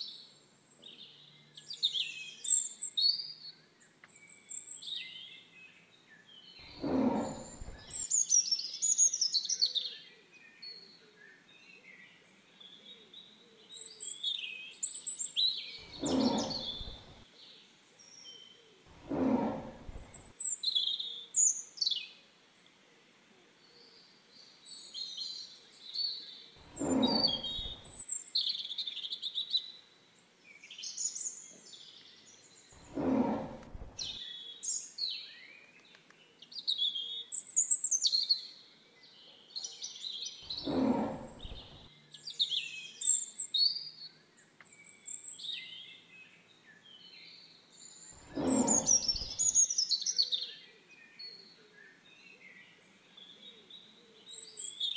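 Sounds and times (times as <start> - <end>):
songbirds chirping and singing: 0.0 - 22.2, 23.6 - 29.8, 30.4 - 54.9.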